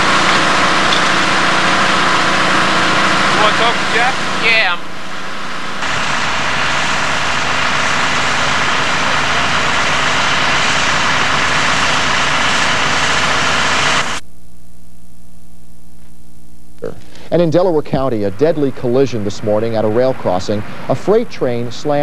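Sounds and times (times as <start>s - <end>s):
fire trucks idling: 0.0s - 14.2s, 17.1s - 22.0s.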